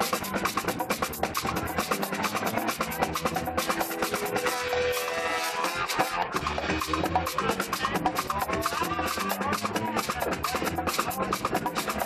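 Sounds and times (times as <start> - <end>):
fast percussion: 0.0 - 12.0
live band playing: 0.0 - 12.0.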